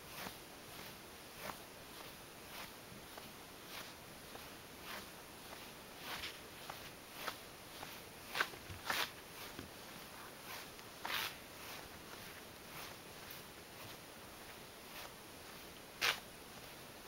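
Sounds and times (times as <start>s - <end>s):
cat paws scuffing on rug: 0.0s - 16.8s.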